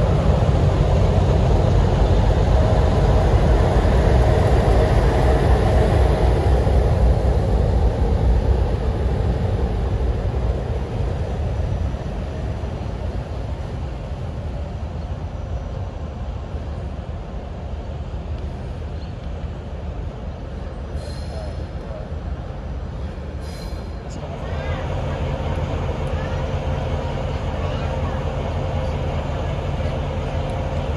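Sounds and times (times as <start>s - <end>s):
diesel locomotive rumbling past: 0.0s - 30.9s.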